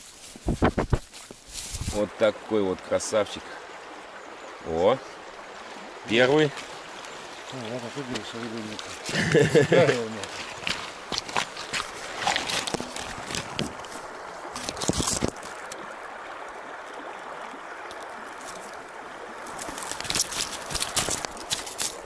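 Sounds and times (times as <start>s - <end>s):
water splashes: 0.0s - 22.0s
river flowing: 1.1s - 22.0s.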